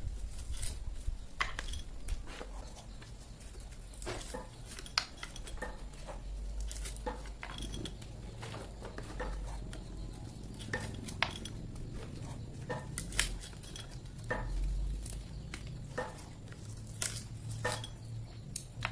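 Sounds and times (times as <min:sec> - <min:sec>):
nut husker cracking nuts: 0:00.3 - 0:18.9.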